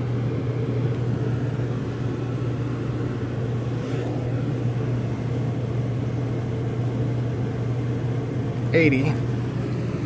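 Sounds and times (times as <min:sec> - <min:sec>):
air conditioner humming: 0:00.0 - 0:10.0
air rushing from vent: 0:00.0 - 0:10.0.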